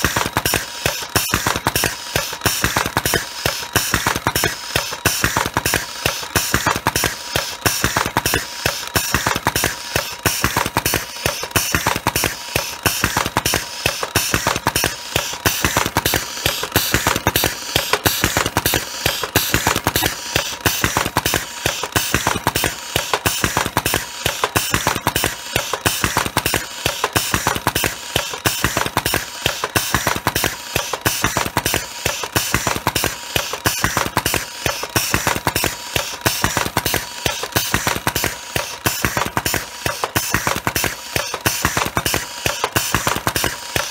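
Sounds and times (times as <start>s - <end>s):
machine clattering: 0.0s - 43.9s.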